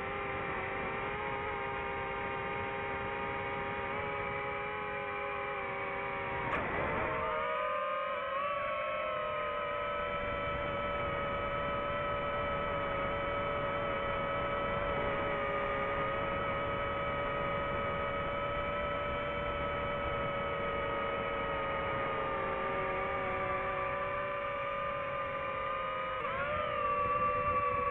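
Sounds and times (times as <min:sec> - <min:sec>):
drone propellers droning whine: 0:00.0 - 0:27.9.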